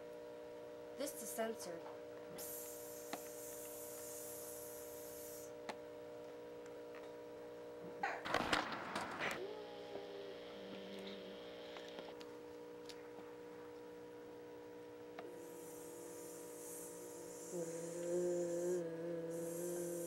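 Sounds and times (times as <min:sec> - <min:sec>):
louder wavering hum: 0:00.0 - 0:20.0
low electrical hum: 0:00.0 - 0:20.0.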